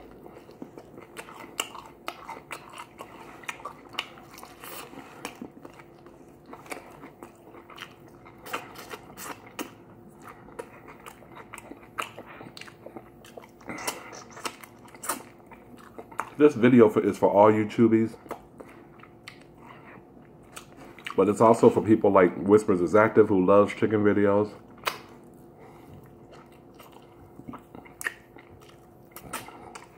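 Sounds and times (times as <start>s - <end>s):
person chewing crispy chicken: 0.0s - 16.6s, 18.2s - 21.2s, 24.7s - 29.9s.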